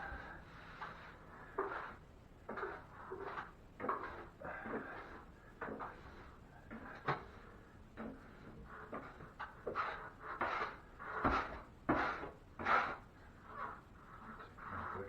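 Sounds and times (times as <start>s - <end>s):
drywall knife scraping compound: 0.7s - 7.3s, 8.0s - 15.0s.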